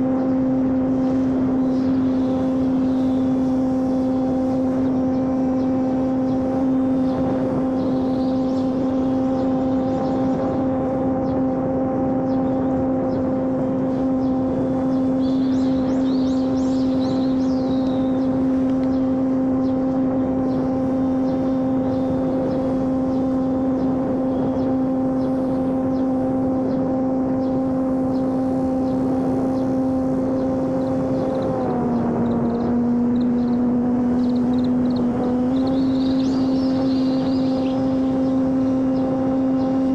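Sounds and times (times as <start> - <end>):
model airplane motor buzzing: 0.0 - 39.9.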